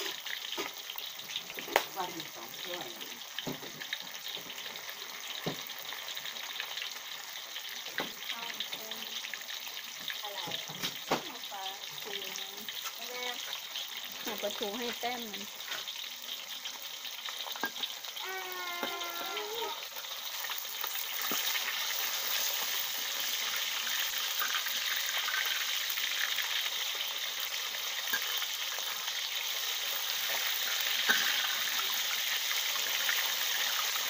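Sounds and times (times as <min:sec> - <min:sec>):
fish frying in hot oil: 0:00.0 - 0:34.0.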